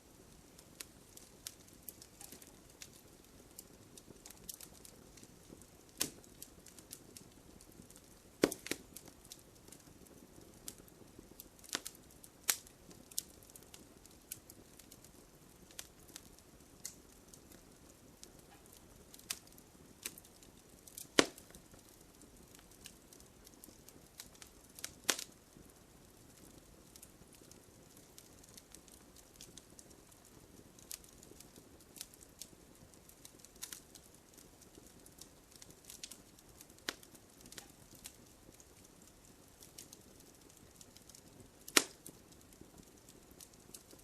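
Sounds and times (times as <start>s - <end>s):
faint hiss: 0.0s - 44.0s
wood fire crackling: 0.0s - 44.0s.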